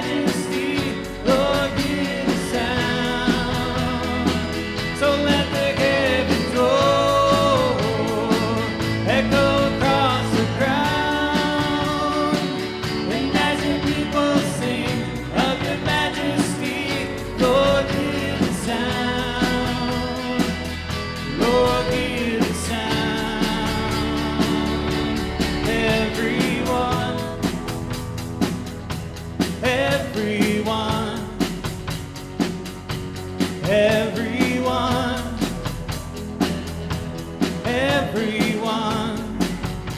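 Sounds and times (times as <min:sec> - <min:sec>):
instrumental accompaniment: 0:00.0 - 0:39.9
worship song singing voices: 0:00.0 - 0:39.9.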